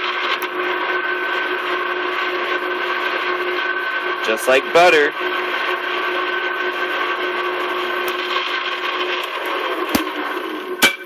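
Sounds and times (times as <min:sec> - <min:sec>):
metal lathe humming with faint whine: 0:00.0 - 0:10.8.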